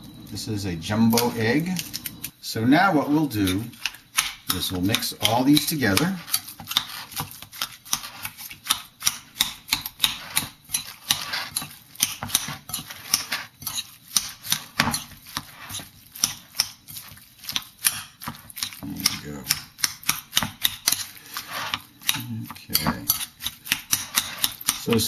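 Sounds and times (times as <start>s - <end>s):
utensil clicking against a bowl: 3.4s - 25.0s.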